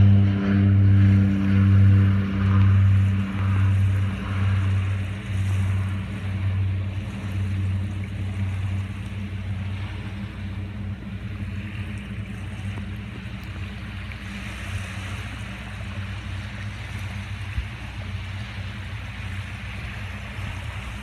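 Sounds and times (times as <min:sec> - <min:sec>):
faint surf: 0:00.0 - 0:21.0
turboprop engines droning: 0:00.0 - 0:21.0.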